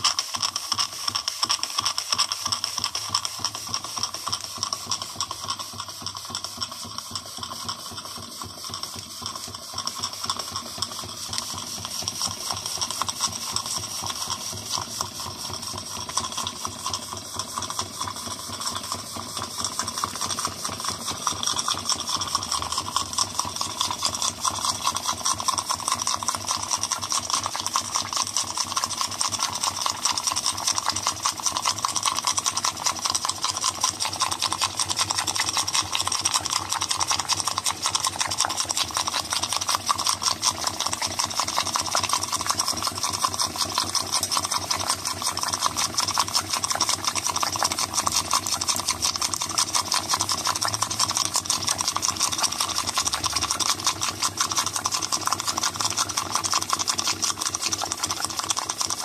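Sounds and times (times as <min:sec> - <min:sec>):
steam engine chuffing: 0:00.0 - 0:59.0.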